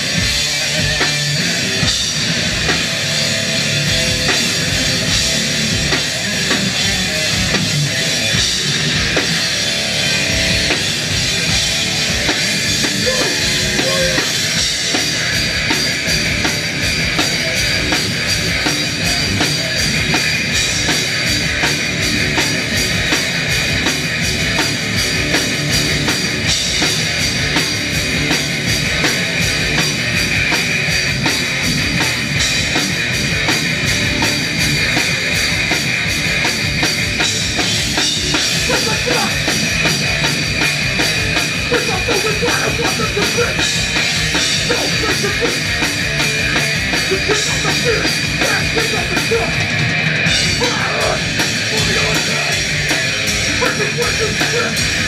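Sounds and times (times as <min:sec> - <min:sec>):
bass guitar: 0:00.0 - 0:55.0
distorted electric guitar: 0:00.0 - 0:55.0
drum kit: 0:00.0 - 0:55.0.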